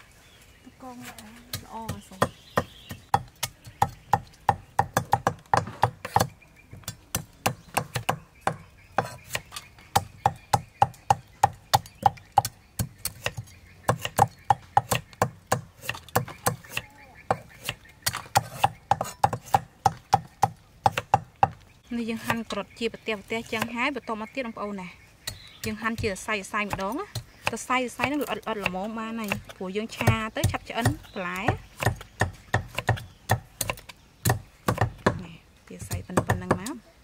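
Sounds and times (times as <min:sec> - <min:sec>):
cleavers chopping on wooden blocks: 0:01.4 - 0:22.5, 0:25.2 - 0:36.8.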